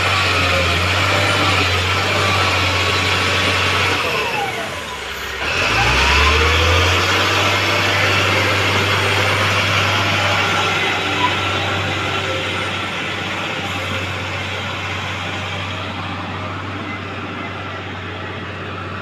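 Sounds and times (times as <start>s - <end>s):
loader diesel engine running: 0.0s - 19.0s.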